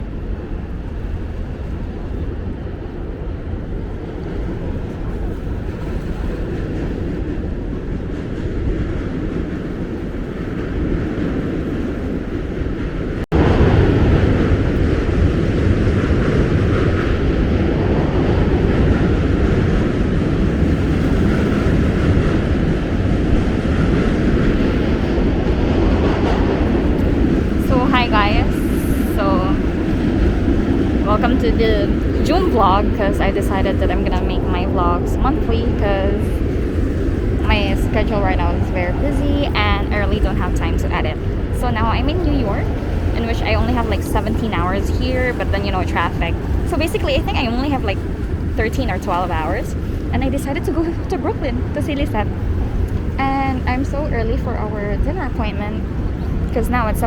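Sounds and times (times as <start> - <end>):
low vehicle rumble: 9.1 - 57.0.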